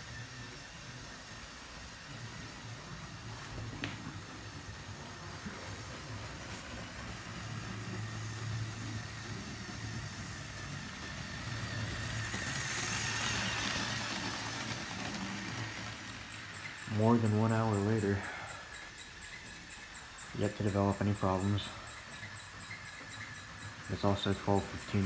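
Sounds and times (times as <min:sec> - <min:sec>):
toy train motor whirring: 0:00.0 - 0:25.0.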